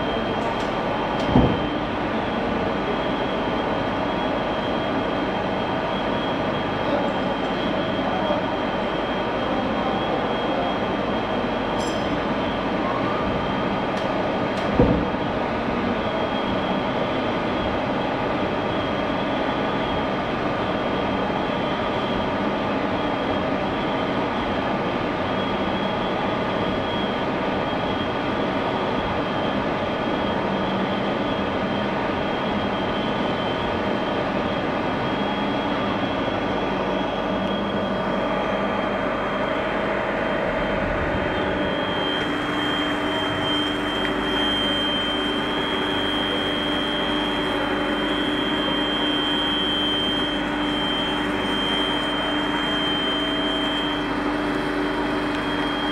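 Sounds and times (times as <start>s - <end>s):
lathe humming with high whine: 0.0s - 55.9s.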